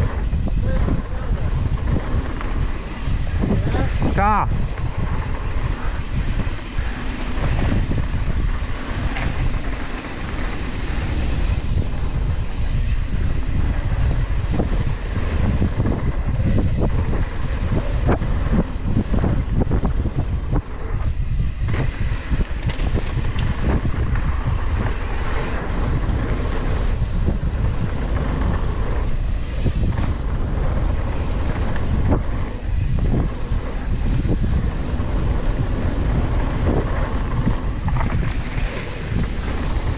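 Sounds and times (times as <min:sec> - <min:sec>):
bike knocks and rattles: 0:00.0 - 0:39.9
tyre noise on dirt: 0:00.0 - 0:39.9
wind rumble on microphone: 0:00.0 - 0:39.9.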